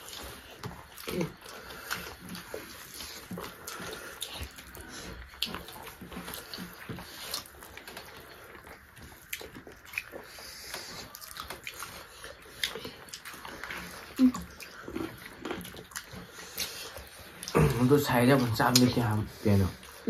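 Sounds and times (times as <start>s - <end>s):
wet chewing and lip-smacking: 0.0s - 20.0s.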